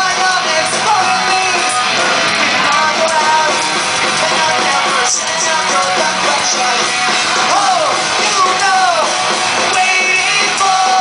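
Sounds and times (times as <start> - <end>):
person singing: 0.0 - 11.0
pop-punk band playing live: 0.0 - 11.0.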